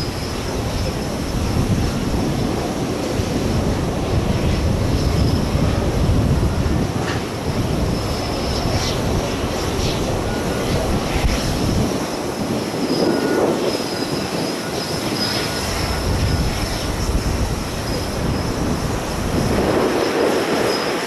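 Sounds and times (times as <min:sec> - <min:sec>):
jet engine high whine: 0:00.0 - 0:21.0
wind buffeting microphone: 0:00.0 - 0:21.0.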